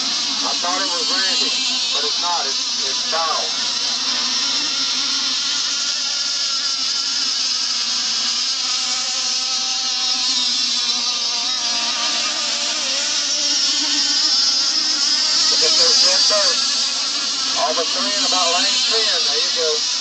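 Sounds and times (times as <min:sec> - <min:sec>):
small boat engines whining: 0:00.0 - 0:20.0.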